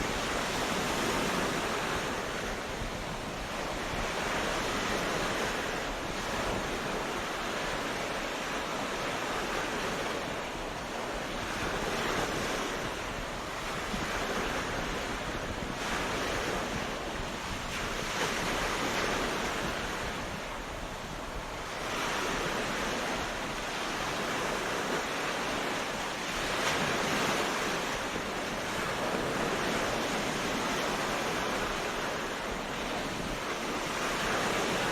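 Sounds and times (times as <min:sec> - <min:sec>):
ocean surf washing onto beach: 0:00.0 - 0:34.9.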